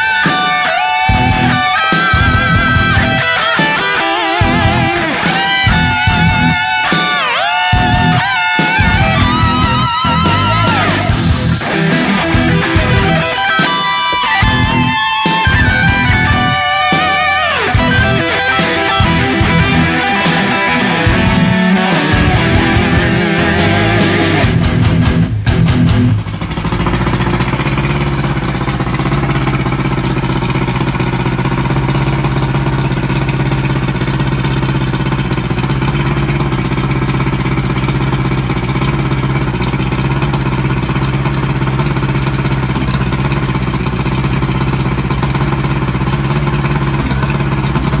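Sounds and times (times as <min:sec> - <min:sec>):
outboard motor idling: 0:00.0 - 0:48.0.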